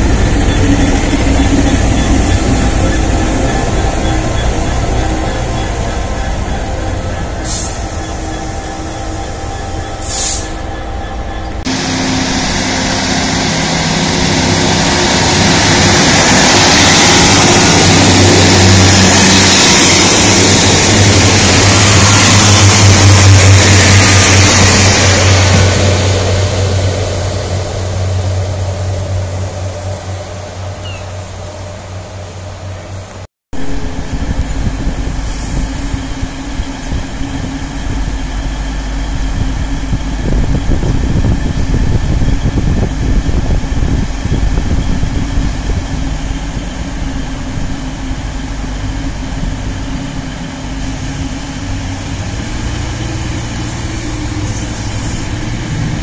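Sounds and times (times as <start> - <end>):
train engine humming: 0.0 - 56.0.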